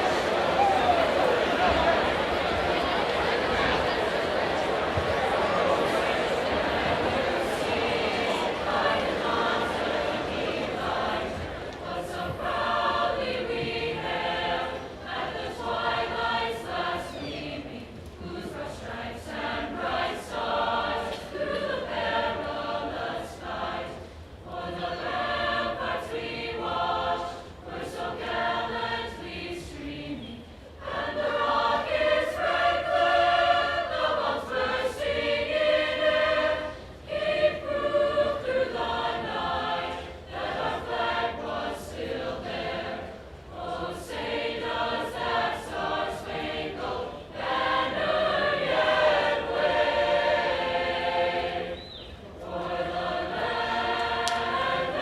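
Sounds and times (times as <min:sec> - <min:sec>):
choir singing an anthem: 0:00.0 - 0:55.0.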